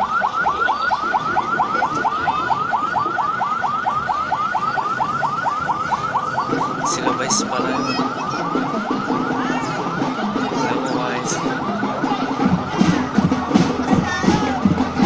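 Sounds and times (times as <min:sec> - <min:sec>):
police siren yelping: 0:00.0 - 0:15.0.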